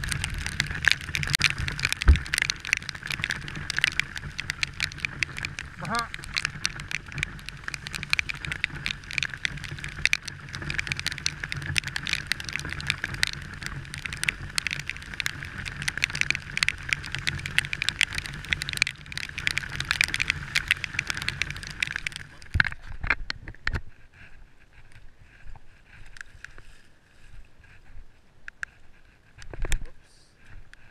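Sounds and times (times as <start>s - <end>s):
rain ticking on camera: 0.0s - 30.9s.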